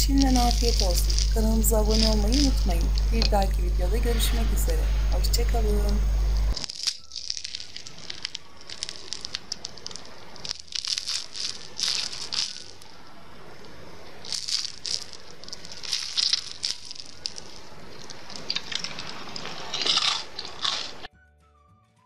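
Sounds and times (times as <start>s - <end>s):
fried crust crackling: 0.0s - 21.1s.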